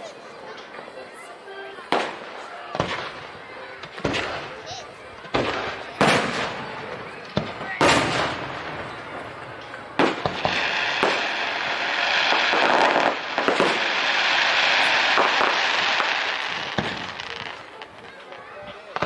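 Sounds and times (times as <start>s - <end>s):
crackling hiss of fireworks: 1.7s - 19.0s
fireworks bangs: 1.8s - 19.0s.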